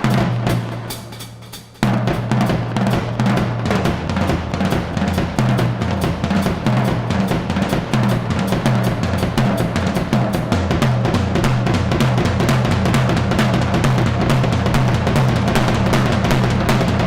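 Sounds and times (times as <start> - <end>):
fast drum roll on snare and bass: 0.0 - 17.0.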